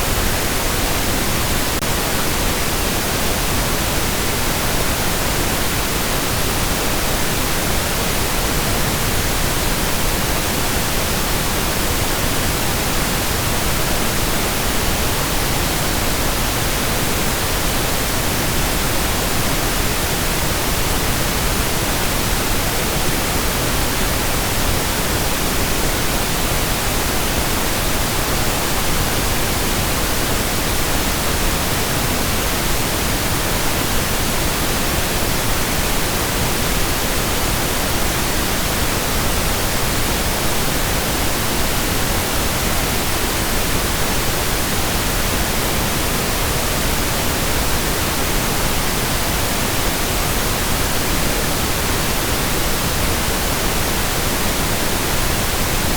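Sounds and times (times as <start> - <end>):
pink noise hiss: 0.0 - 55.9.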